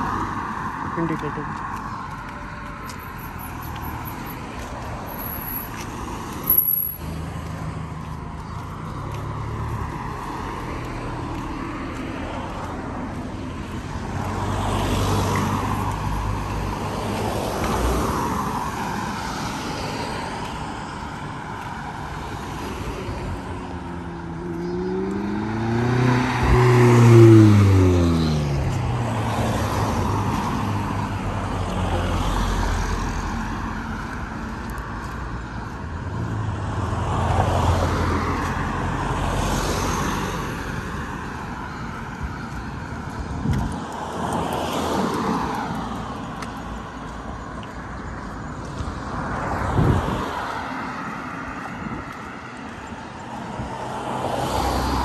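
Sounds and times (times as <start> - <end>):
vehicles driving past: 0.0 - 55.0.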